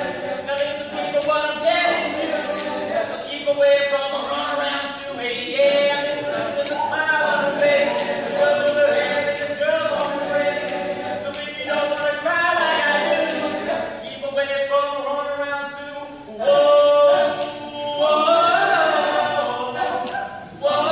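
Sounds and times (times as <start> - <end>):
male group singing a cappella: 0.0 - 20.9.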